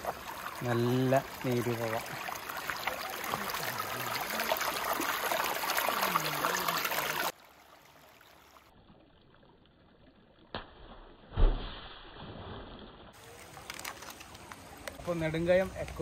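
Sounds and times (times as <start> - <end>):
stream running over stones: 0.0 - 16.0.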